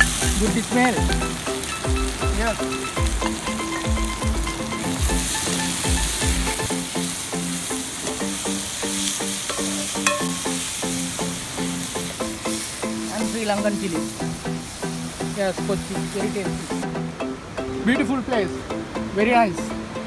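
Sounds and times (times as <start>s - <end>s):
onion and garlic sizzling in oil: 0.0s - 16.8s
background music with melody: 0.0s - 20.0s.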